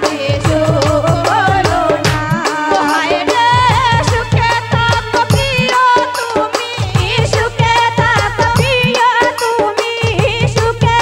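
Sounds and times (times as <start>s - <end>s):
hand drum beat: 0.0s - 11.0s
keyboard: 0.0s - 11.0s
women singing through microphones: 0.0s - 11.0s.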